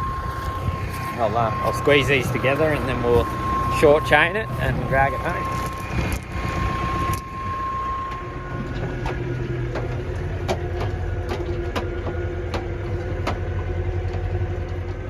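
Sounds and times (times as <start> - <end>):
machine engine running under load: 0.0 - 15.0.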